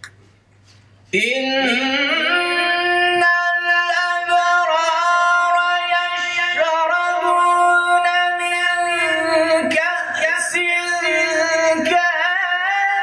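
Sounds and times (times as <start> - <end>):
man chanting into a microphone: 1.1 - 13.0.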